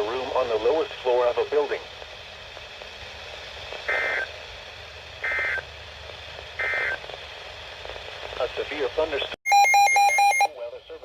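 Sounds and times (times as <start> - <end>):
steady low hiss: 0.0 - 9.4.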